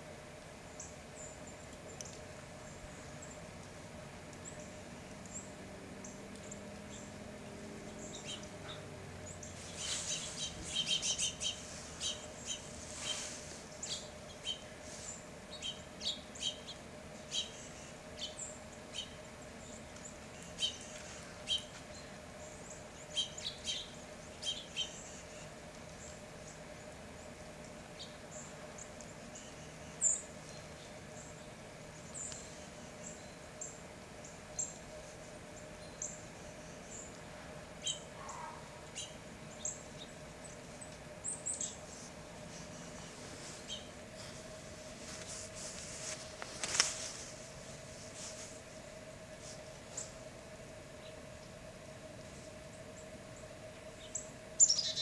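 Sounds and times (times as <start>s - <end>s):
songbirds chipping: 0.3s - 55.0s.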